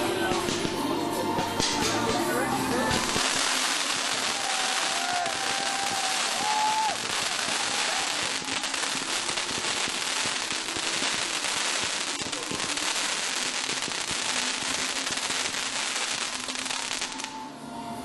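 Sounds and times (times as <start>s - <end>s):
firework fountain hissing and crackling: 0.0s - 17.5s.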